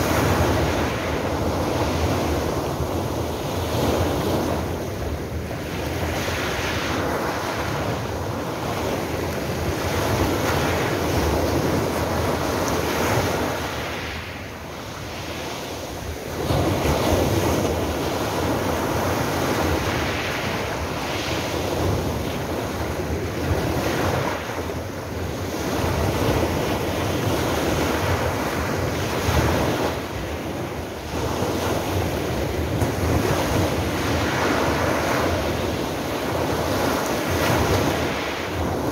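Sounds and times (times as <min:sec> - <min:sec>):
waves washing on pebble beach: 0:00.0 - 0:38.9.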